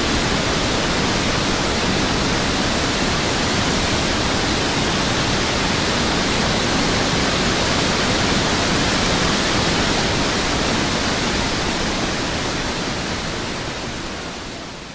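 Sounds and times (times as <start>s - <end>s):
river rushing: 0.0s - 14.9s.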